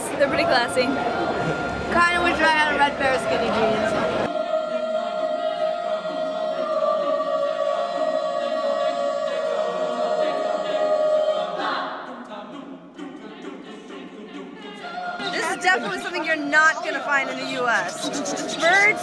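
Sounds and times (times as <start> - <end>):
choir singing sustained chord: 0.0 - 19.0.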